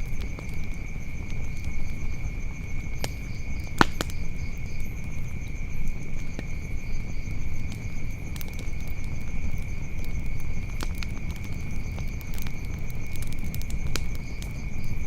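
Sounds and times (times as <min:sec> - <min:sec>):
crickets trilling: 0:00.0 - 0:15.0
wood fire crackling: 0:00.0 - 0:15.0.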